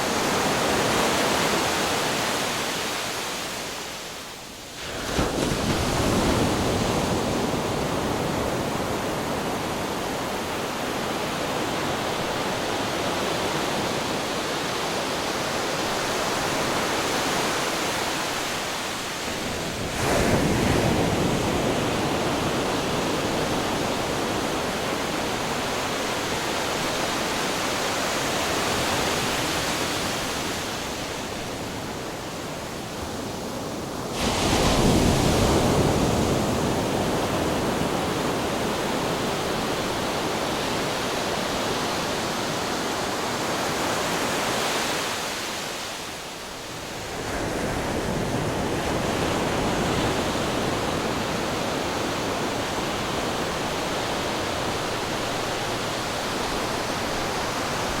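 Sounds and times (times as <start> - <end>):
constant rush of surf: 0.0 - 58.0.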